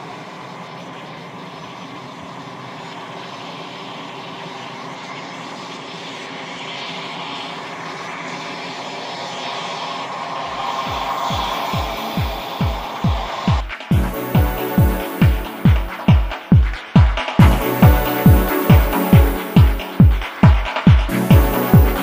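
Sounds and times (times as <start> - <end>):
jet engines whining at taxi power: 0.0 - 22.0.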